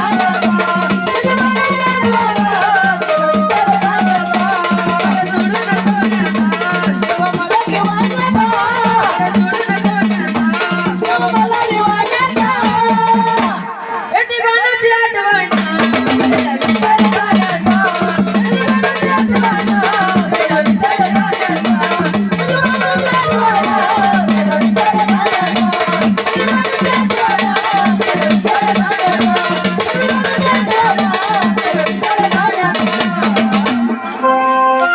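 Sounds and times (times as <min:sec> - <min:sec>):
steady drum beat: 0:00.0 - 0:14.2, 0:15.5 - 0:34.2.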